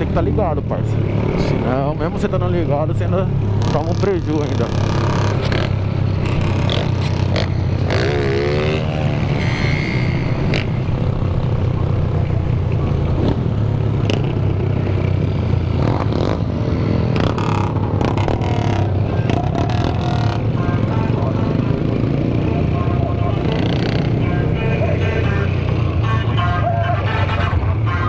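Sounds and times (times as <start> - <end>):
motorcycle engines droning: 0.0 - 28.0.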